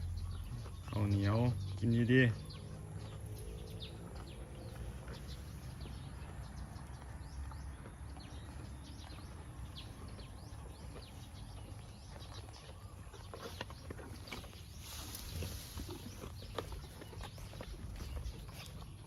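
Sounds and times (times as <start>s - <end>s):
cow tearing and chewing grass: 0.0s - 19.0s
small birds chirping: 0.0s - 19.0s.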